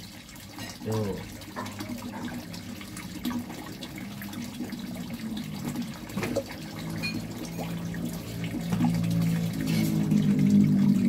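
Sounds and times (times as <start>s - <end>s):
low steady hum: 0.0s - 11.0s
water splashing into pond: 0.0s - 11.0s.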